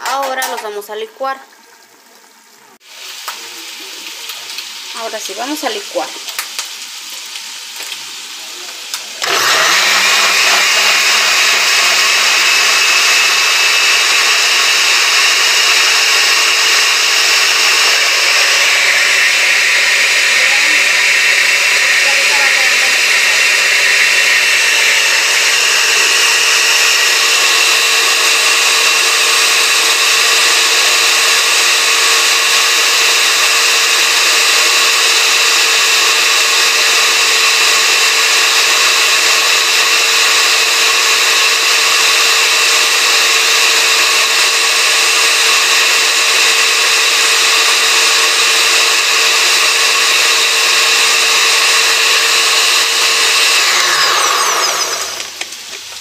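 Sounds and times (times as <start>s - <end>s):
blender motor whining: 8.9s - 56.0s.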